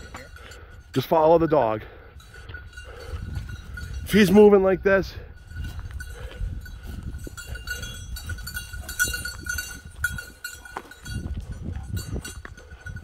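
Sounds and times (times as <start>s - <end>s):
dog's bell jingling: 0.0s - 13.0s.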